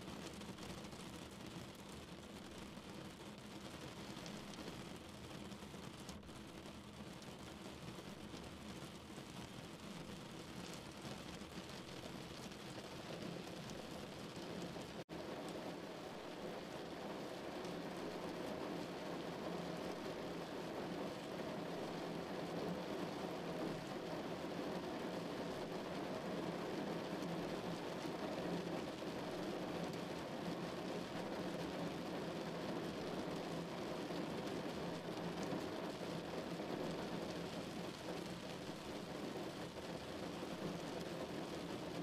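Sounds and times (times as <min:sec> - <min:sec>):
rain on car windshield: 0:00.0 - 0:42.0.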